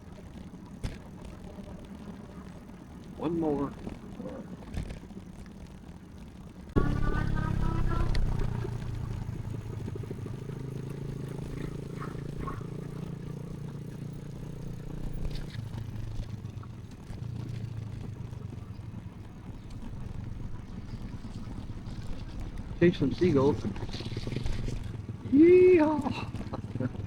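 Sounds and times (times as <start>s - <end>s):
electric bike rumble: 0.0s - 27.0s.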